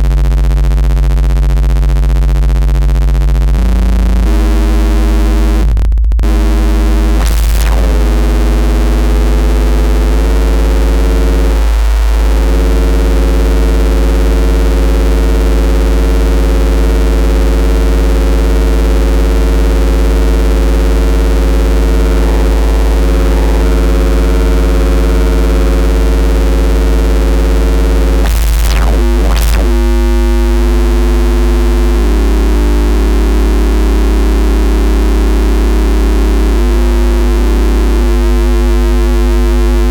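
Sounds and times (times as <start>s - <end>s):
synthesizer bass drone: 0.0s - 39.9s.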